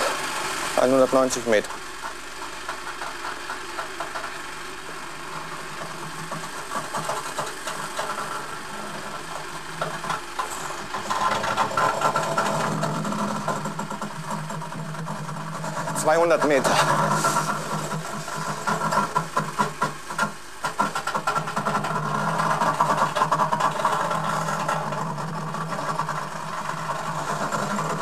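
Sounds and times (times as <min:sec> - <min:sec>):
low mechanical hum: 0:00.0 - 0:28.0
ticks and crackles: 0:00.8 - 0:28.0.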